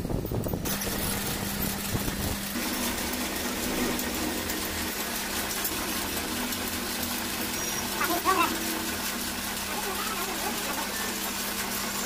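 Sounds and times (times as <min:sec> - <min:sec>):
hands clattering on lathe gears: 0:00.0 - 0:12.0
lathe humming: 0:00.4 - 0:12.0.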